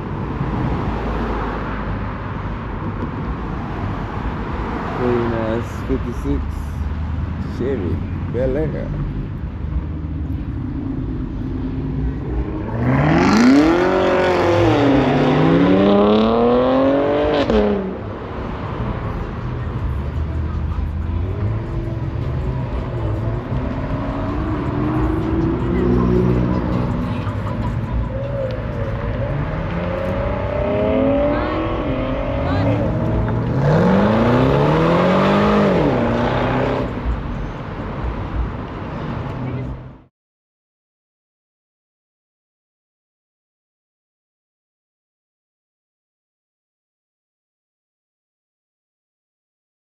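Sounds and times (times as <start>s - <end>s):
car engine idling and revving: 0.0s - 40.1s.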